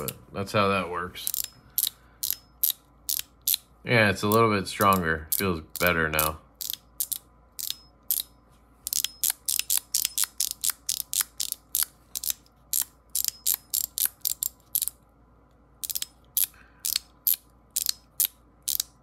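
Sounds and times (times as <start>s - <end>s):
metal fidget toy clicking: 1.3s - 3.6s, 4.3s - 15.0s, 15.8s - 19.0s.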